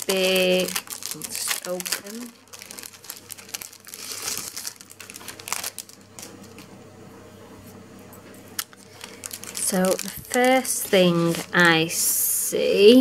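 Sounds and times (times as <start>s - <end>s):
cellophane crinkling: 0.0s - 6.8s, 8.6s - 12.3s.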